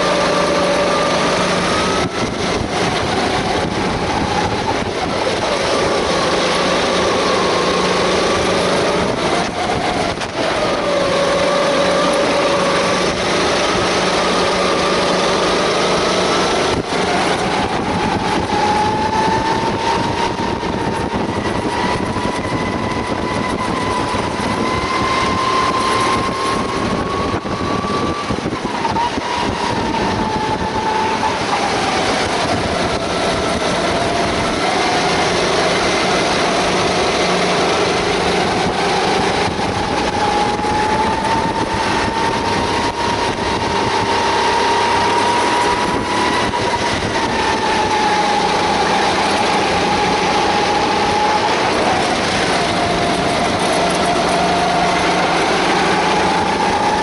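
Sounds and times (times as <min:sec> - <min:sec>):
kart engine racing: 0:00.0 - 0:57.0
rushing noise: 0:00.0 - 0:57.0.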